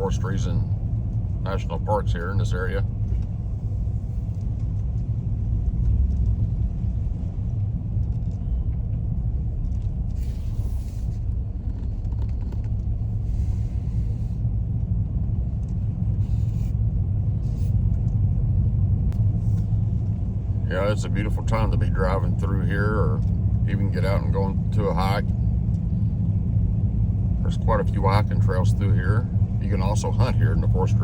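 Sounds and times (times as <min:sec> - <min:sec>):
car tyre and engine rumble: 0:00.0 - 0:31.0.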